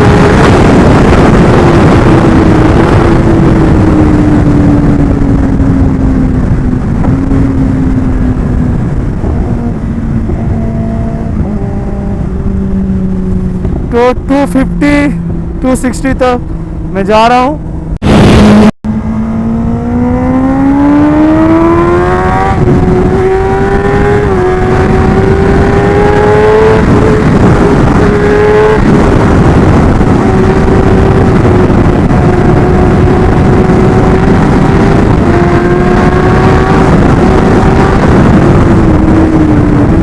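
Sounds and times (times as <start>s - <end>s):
motorcycle engine accelerating: 0.0s - 40.0s
wind rushing over microphone: 0.0s - 40.0s.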